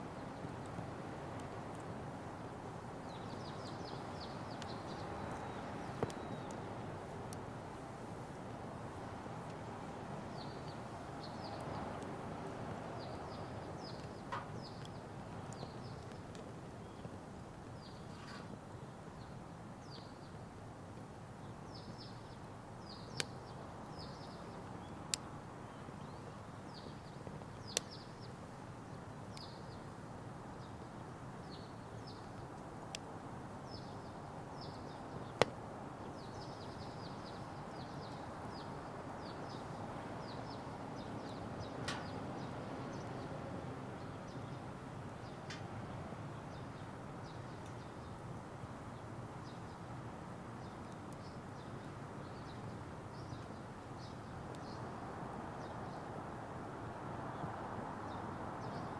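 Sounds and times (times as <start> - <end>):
small birds chirping: 0.1 - 20.4, 21.4 - 32.5, 33.6 - 50.0, 50.6 - 56.2, 57.2 - 58.9.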